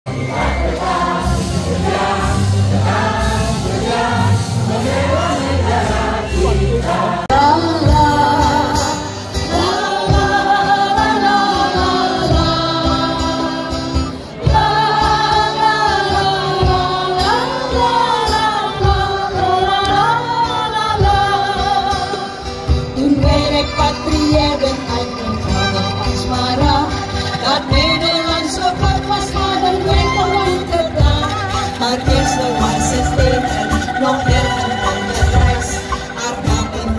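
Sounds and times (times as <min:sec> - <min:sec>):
group singing: 0:00.1 - 0:23.5, 0:26.6 - 0:36.9
acoustic guitar: 0:00.1 - 0:36.9.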